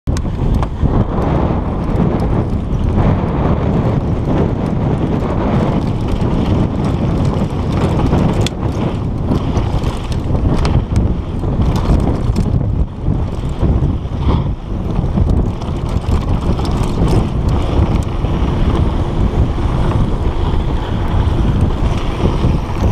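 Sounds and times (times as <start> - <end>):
wind buffeting microphone: 0.0 - 22.9
bike clicks and rattles: 0.1 - 22.9
bike rolling on dirt trail: 0.1 - 22.9.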